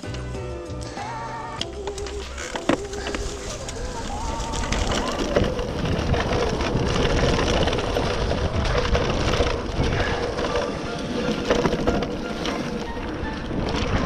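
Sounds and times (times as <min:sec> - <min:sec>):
bike clattering over bumps: 0:01.6 - 0:14.0
tyres crunching over gravel: 0:01.6 - 0:14.0.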